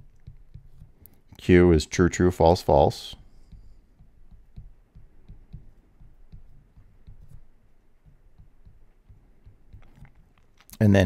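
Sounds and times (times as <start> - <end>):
stylus tapping on tablet screen: 0.0 - 1.4, 3.2 - 10.7.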